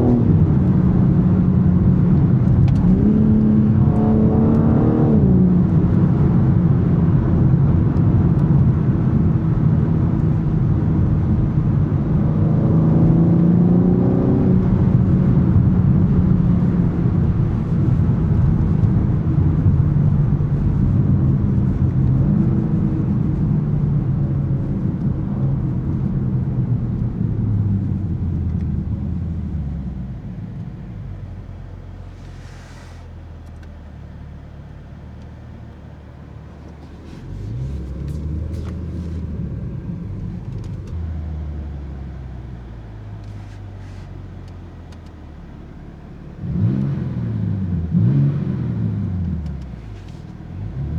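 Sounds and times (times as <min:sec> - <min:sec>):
car engine running: 0:00.0 - 0:50.9
road noise: 0:00.0 - 0:50.9.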